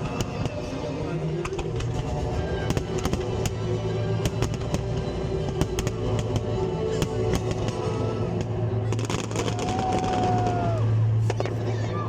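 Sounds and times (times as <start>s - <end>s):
fireworks banging and crackling: 0.0s - 11.8s.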